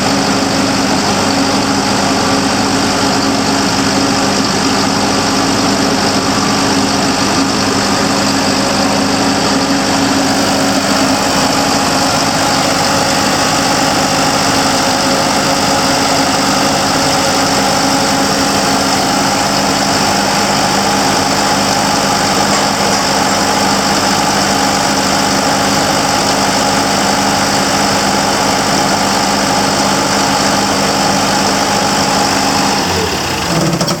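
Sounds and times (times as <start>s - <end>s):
diesel air compressor running: 0.0s - 34.0s.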